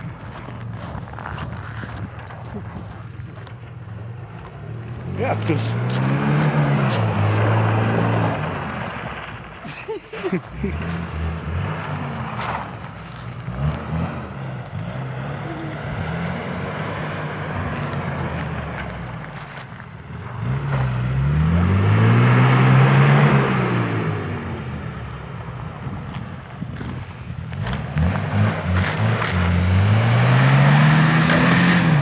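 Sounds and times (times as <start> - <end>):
vehicle engine revving: 0.0 - 9.7, 10.4 - 32.0.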